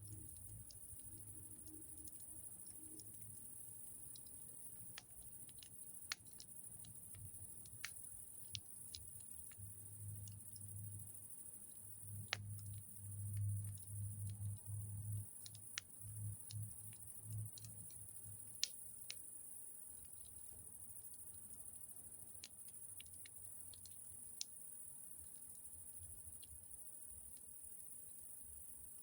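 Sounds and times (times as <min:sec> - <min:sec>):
campfire crackling and popping: 0:00.1 - 0:19.3, 0:19.9 - 0:27.5.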